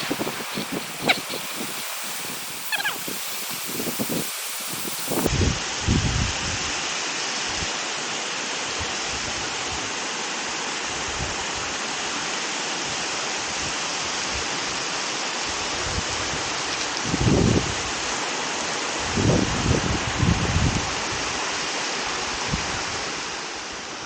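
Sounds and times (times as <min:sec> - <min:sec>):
river and waterfall roar: 0:00.0 - 0:24.0.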